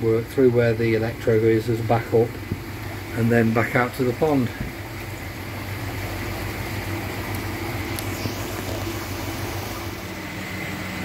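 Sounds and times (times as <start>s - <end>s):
moving water: 0.0s - 11.0s
pump equipment humming: 0.0s - 11.0s.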